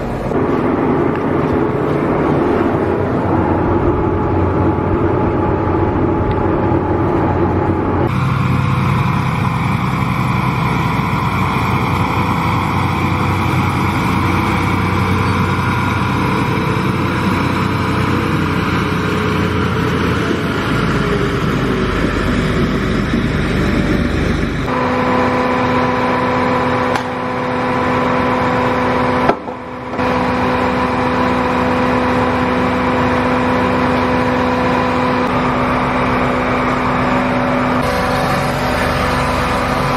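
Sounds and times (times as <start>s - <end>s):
steady pitched hum: 0.0s - 39.9s
tractor engine running: 0.0s - 39.9s.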